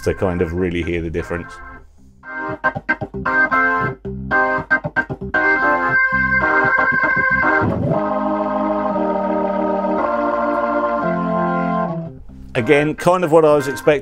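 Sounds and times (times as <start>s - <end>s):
organ chords through rotating speaker: 0.0s - 14.0s.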